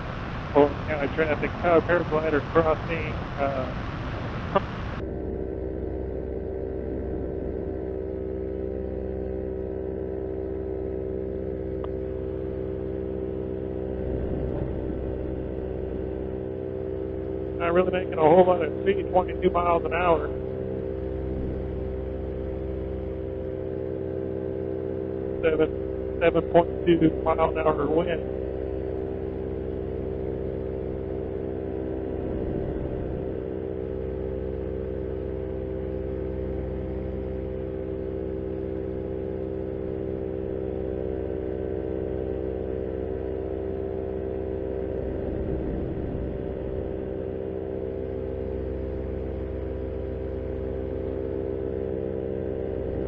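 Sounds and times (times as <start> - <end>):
paramotor engine droning: 0.0 - 53.0.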